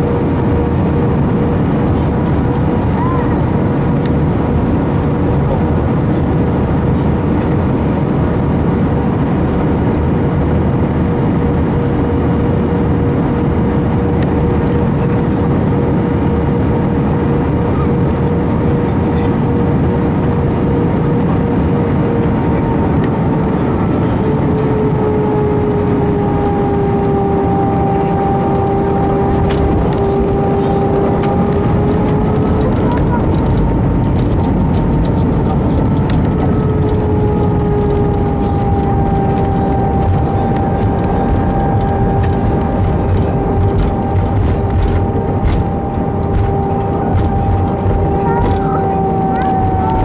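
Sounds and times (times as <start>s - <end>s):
jet engine rumble in cabin: 0.0s - 50.0s
whining tone: 0.0s - 50.0s.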